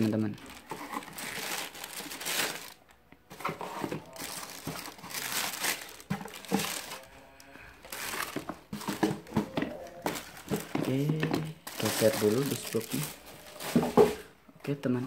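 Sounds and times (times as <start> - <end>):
tissue paper crinkling: 0.0 - 7.2, 7.8 - 9.1, 9.8 - 14.2.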